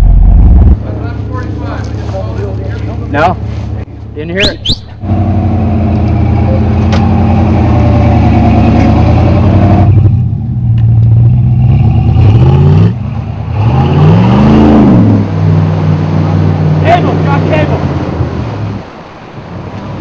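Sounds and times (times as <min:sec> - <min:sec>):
truck engine revving: 0:00.0 - 0:03.5, 0:04.4 - 0:20.0.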